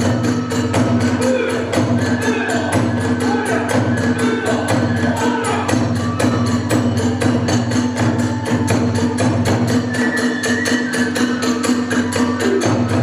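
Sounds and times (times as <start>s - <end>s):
bamboo flute: 0.0s - 13.0s
drums beating: 0.0s - 13.0s.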